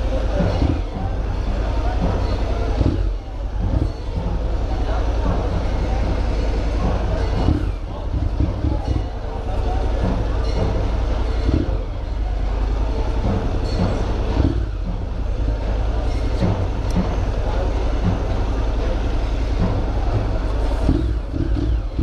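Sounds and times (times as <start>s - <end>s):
motorcycle engine rumbling: 0.0s - 22.0s
street noise: 0.0s - 22.0s
voices: 0.0s - 22.0s.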